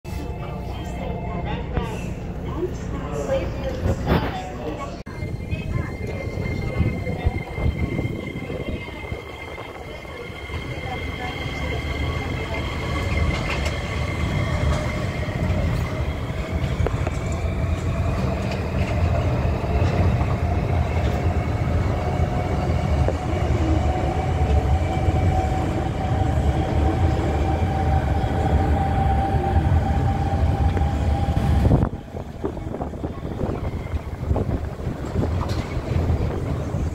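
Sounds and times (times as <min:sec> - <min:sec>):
train low rumble: 0:00.0 - 0:36.9.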